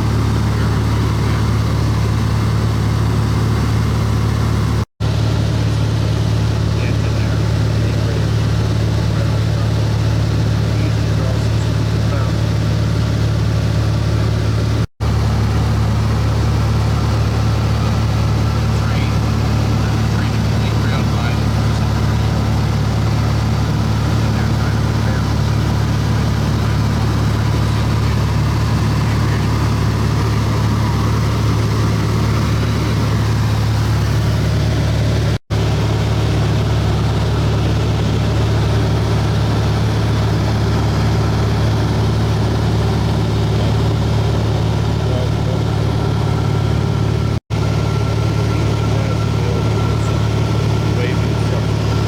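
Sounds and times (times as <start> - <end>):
propeller aircraft engine droning: 0.0 - 52.0.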